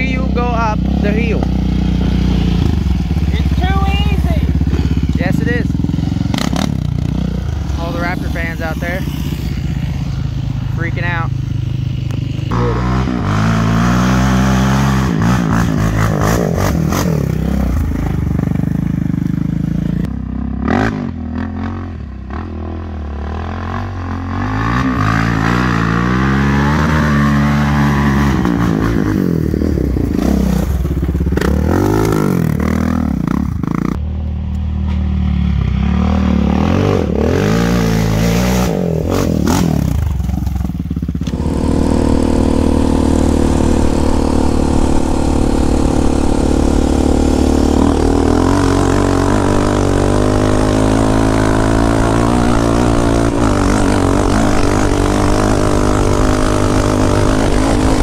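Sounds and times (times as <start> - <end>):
atv engines revving: 0.0 - 58.0.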